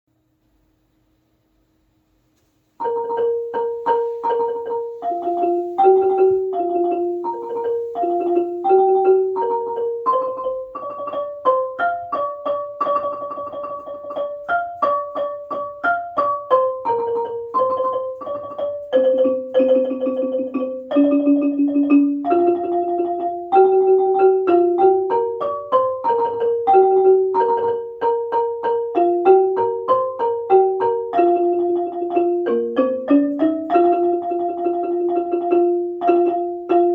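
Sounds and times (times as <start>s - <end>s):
xylophone melody: 2.8s - 36.9s.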